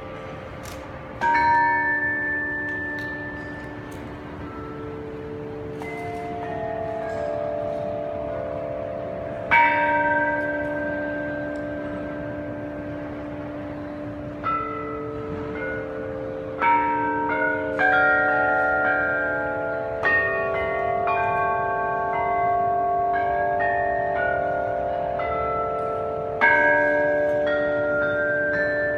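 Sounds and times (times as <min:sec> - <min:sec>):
bells ringing: 0:00.0 - 0:28.9.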